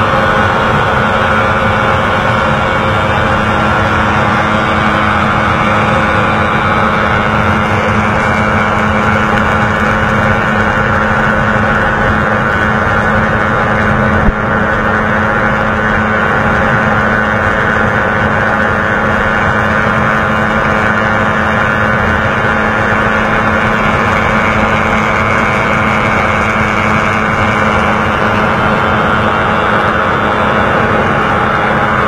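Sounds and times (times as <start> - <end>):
motorcycle engine running: 0.0 - 32.0
wind noise on microphone: 0.0 - 32.0.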